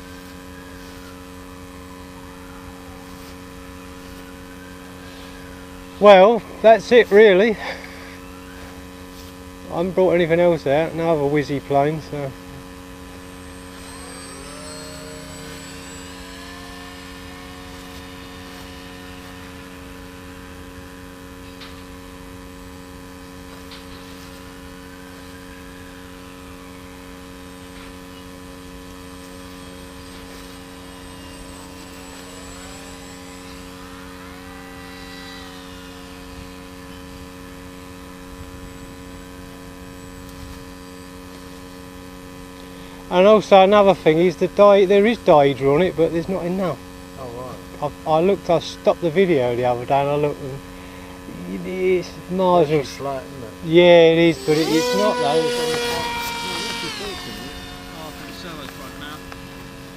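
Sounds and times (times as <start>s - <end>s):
model plane motor whining: 0.0s - 59.9s
steady hum: 0.0s - 59.9s.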